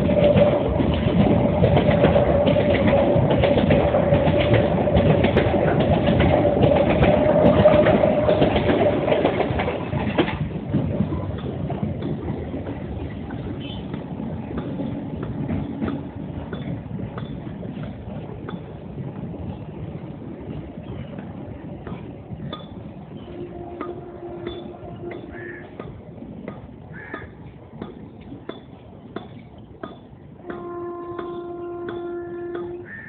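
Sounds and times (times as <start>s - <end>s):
train rumbling and rattling: 0.0s - 33.0s.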